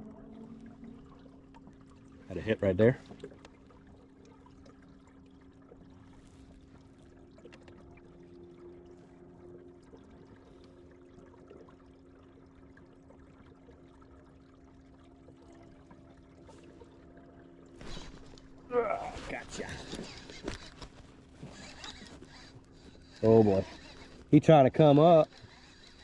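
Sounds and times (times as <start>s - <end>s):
steady low hum: 0.0s - 26.0s
water trickling and lapping: 0.0s - 26.0s.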